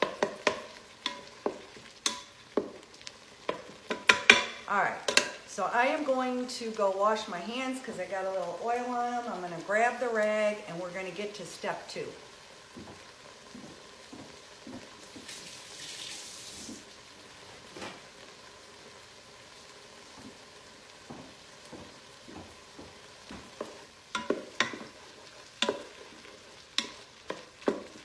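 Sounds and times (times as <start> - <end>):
meat sizzling in a pot: 0.0 - 28.0.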